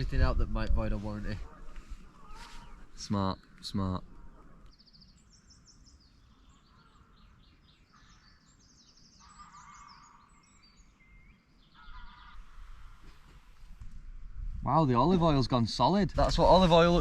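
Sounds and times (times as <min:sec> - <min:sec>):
small birds chirping and trilling: 0:00.0 - 0:13.9.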